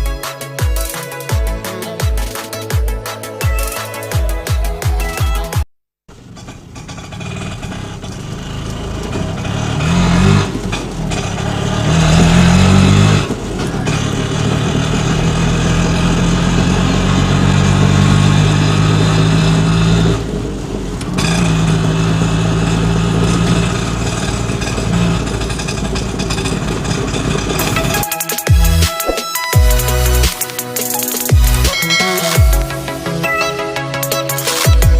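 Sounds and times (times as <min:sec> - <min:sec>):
engine revving: 0:06.1 - 0:34.8.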